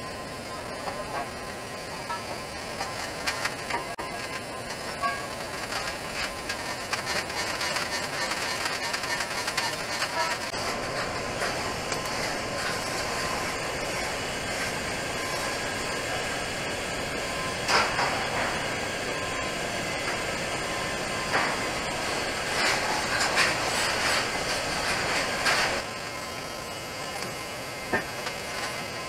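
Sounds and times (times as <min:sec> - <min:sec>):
welding arc hissing: 0:00.6 - 0:29.0.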